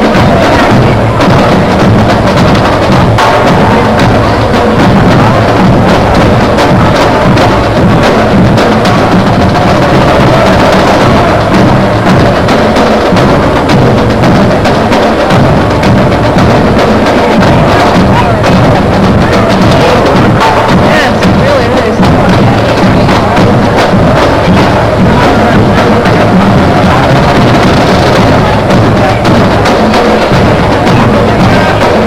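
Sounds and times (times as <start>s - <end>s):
loud music with drums: 0.0s - 32.0s.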